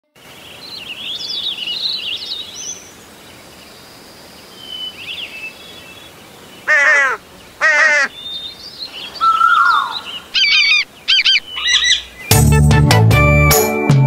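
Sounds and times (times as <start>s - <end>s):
steady background hiss: 0.1s - 12.4s
songbirds chirping: 0.2s - 12.5s.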